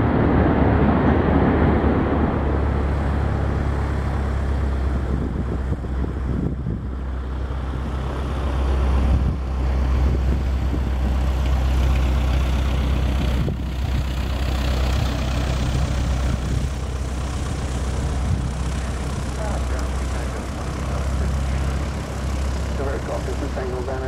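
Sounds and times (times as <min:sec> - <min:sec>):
propeller airplane engines droning: 0:00.0 - 0:24.0.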